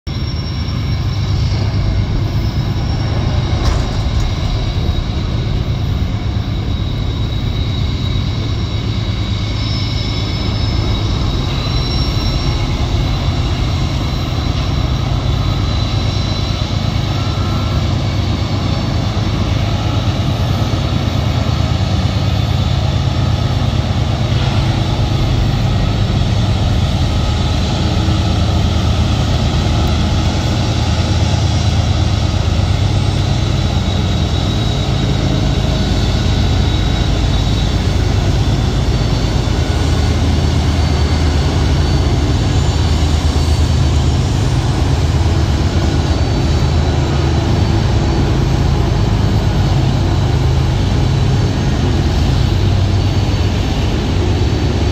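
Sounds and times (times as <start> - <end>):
diesel locomotive engine drone: 0.0 - 54.9.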